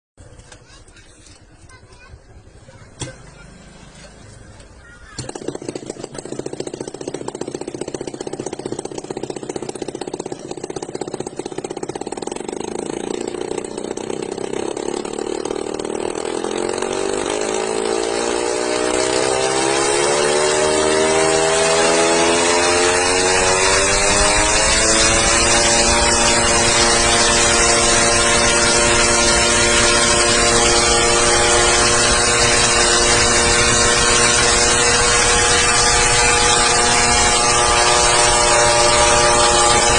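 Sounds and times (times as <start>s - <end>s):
aircraft engine revving: 2.9s - 39.9s.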